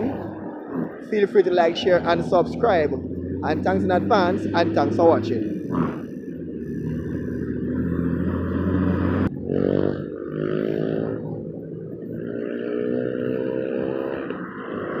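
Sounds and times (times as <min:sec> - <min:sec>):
cars passing: 0:00.0 - 0:15.0
engine speeding up: 0:00.0 - 0:15.0
vehicle engines running: 0:00.0 - 0:15.0.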